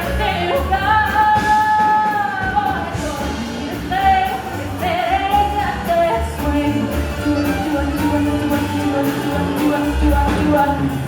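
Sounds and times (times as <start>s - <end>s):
music with singing and beat: 0.0s - 11.0s.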